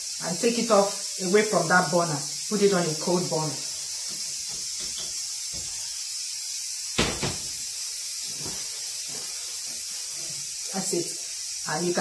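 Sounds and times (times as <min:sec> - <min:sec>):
pressure cooker hissing: 0:00.0 - 0:12.0.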